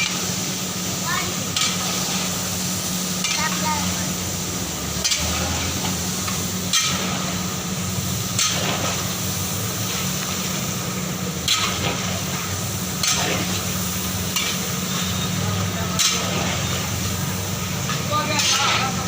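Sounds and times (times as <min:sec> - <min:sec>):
beef sizzling in a pot: 0:00.0 - 0:19.0.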